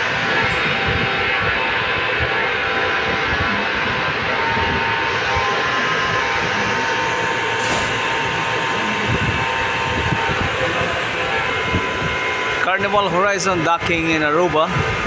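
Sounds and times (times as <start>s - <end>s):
ship machinery drone: 0.0s - 15.0s.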